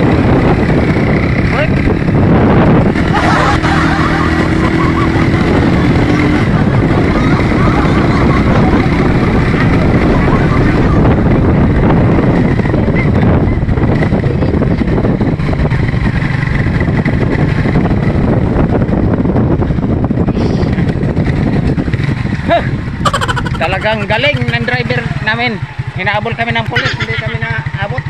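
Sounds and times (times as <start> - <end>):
vehicle engine and road noise: 0.0 - 28.0
wind buffeting microphone: 0.0 - 28.0.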